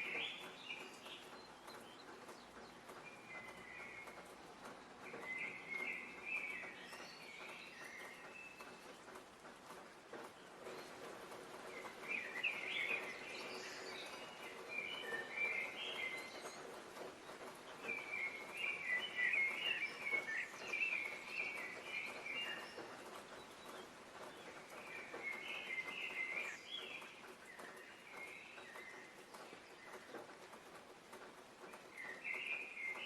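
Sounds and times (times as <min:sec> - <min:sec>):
songbirds chirping: 0:00.0 - 0:33.0
steady background noise: 0:00.0 - 0:33.0.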